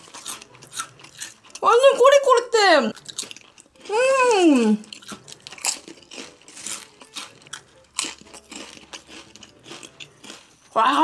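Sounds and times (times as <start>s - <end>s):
crunching potato chips: 0.0s - 1.6s, 2.9s - 11.0s.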